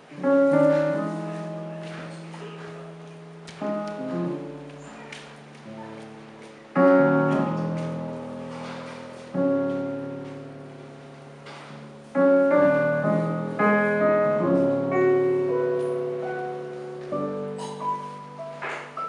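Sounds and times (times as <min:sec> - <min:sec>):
slow piano chords: 0:00.0 - 0:19.0
soft single piano notes: 0:00.1 - 0:19.0.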